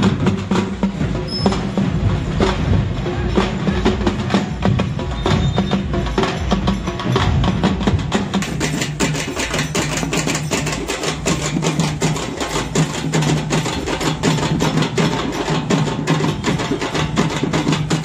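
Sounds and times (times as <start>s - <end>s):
drummers beating barrel drums: 0.0s - 18.0s.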